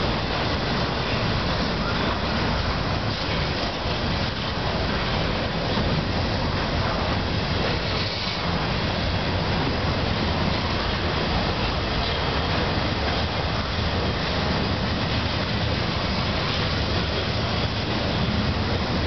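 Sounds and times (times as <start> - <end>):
steel wheels running on rails: 0.0 - 19.0.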